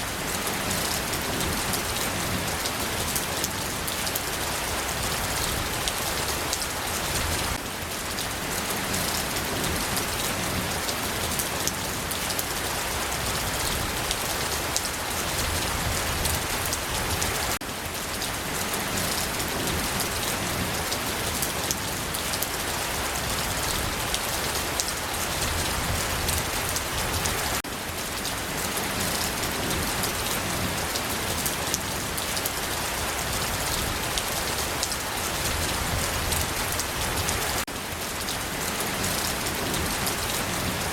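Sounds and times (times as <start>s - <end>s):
raindrops ticking on a surface: 0.0s - 40.9s
steady rain falling: 0.0s - 40.9s.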